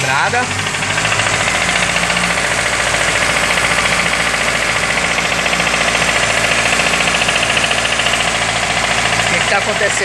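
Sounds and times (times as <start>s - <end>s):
car engine knocking: 0.0s - 10.0s.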